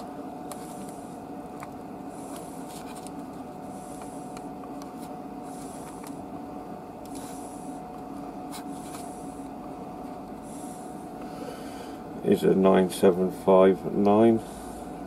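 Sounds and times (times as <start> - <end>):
faint constant whine: 0.0 - 15.0.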